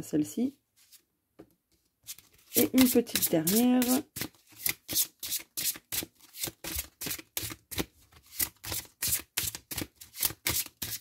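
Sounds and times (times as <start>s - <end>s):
cards shuffling: 2.0s - 11.0s.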